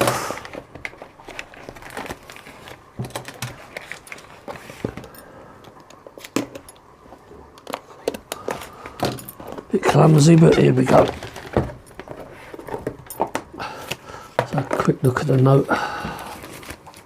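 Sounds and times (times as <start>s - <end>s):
tape crinkling: 0.0s - 17.0s.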